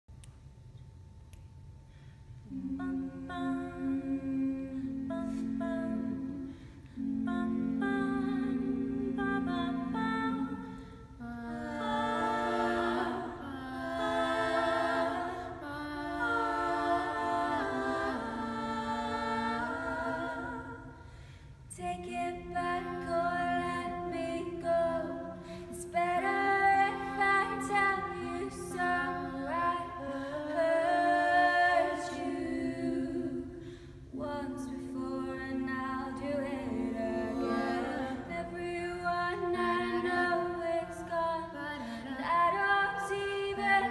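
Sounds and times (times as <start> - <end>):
women singing in close harmony: 2.5 - 43.9.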